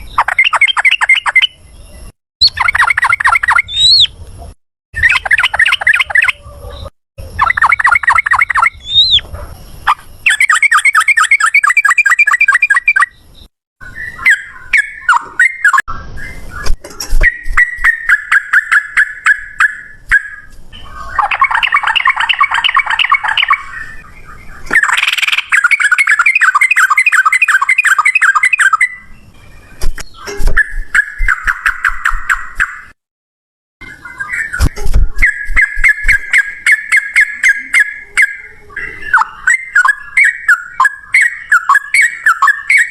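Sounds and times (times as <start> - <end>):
bulbul singing chattering trills: 0.0 - 33.0, 33.8 - 42.9.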